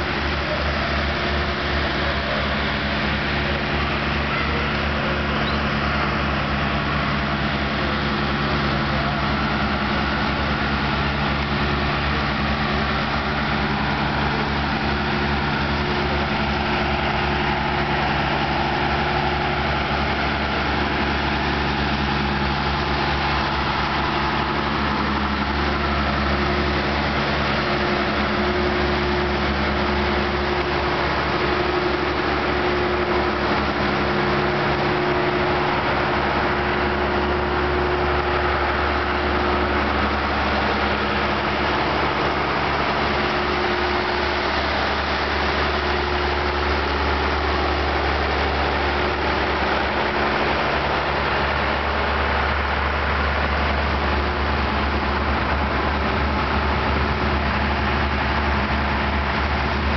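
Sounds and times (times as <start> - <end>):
engine idling: 0.0 - 59.9.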